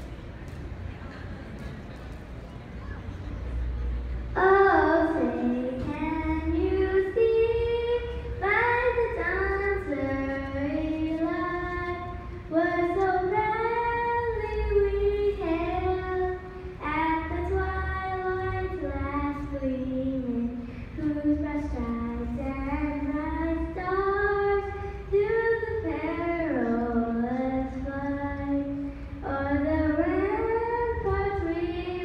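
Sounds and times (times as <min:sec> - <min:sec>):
girl singing unaccompanied: 0:04.3 - 0:32.0.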